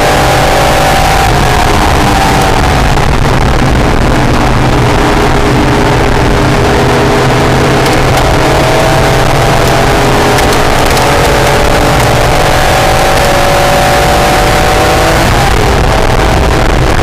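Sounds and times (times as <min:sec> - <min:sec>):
car engine running hard: 0:00.0 - 0:17.0
wind and road noise: 0:00.0 - 0:17.0.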